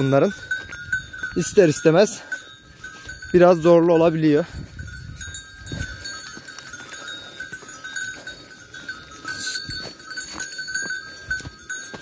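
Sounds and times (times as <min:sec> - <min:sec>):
sheep bells ringing: 0:00.0 - 0:12.0.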